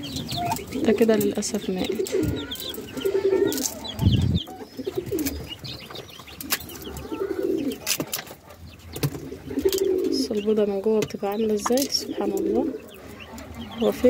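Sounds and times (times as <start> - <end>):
chicks peeping: 0.0 - 14.0
pigeons cooing: 0.0 - 14.0.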